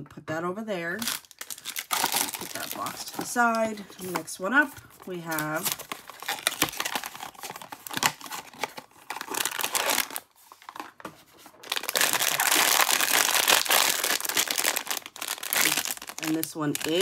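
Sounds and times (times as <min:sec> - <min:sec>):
foil pouch crinkling: 0:01.0 - 0:04.2, 0:04.8 - 0:17.0.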